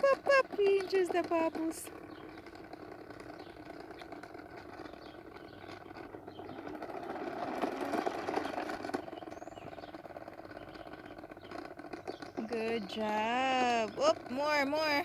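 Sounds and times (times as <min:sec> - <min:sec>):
toy lawnmower clattering and clicking: 0:00.0 - 0:15.0.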